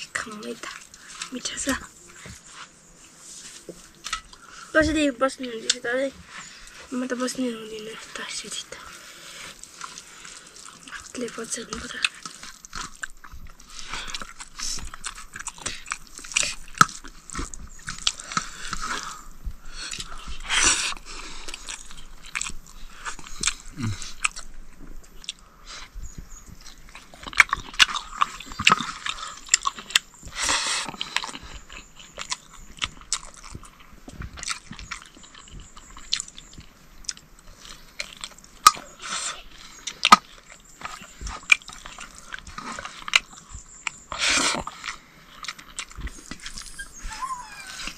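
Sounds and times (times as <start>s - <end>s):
chewing and biting: 0.0s - 4.7s, 5.4s - 47.9s.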